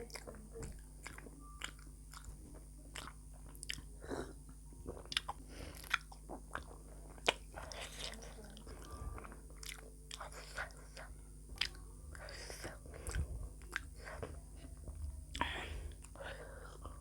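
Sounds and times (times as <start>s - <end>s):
person chewing food: 0.1s - 17.0s.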